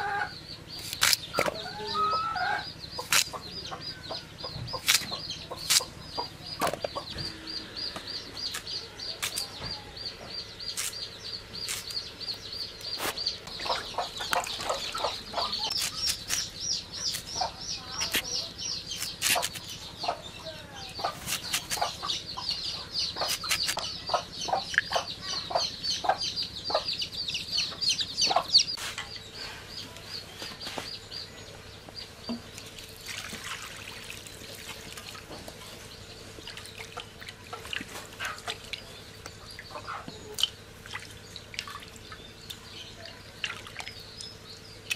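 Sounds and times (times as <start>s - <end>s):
chickens clucking: 0.0s - 0.4s, 1.3s - 31.1s, 34.4s - 40.6s.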